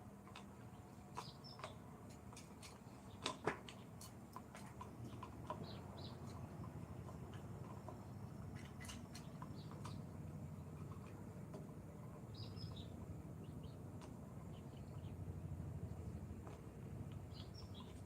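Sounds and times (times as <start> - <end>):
steady low hum: 0.0 - 18.0
small birds chirping: 0.2 - 18.0.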